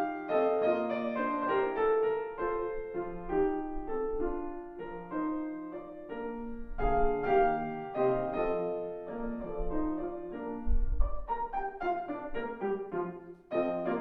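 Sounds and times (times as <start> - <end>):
solo classical piano: 0.0 - 14.0.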